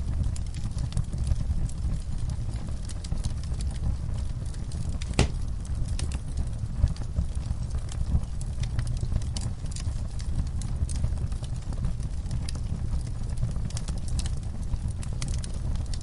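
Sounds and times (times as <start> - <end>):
fire crackling: 0.0 - 16.0
low rumble of burning: 0.0 - 16.0.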